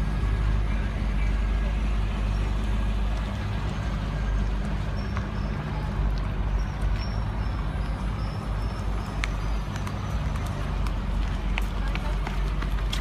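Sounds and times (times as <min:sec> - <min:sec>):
car engines driving past slowly: 0:00.0 - 0:13.0.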